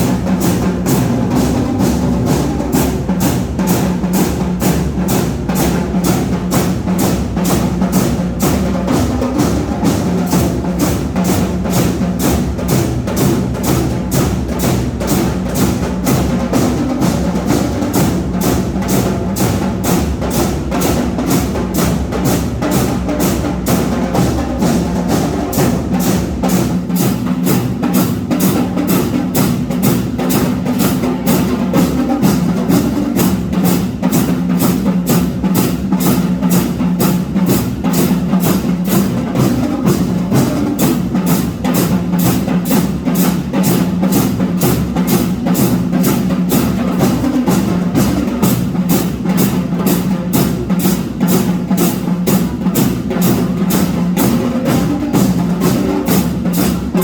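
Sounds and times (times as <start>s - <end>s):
drums striking march beat: 0.0s - 57.0s
marching band playing: 0.0s - 57.0s.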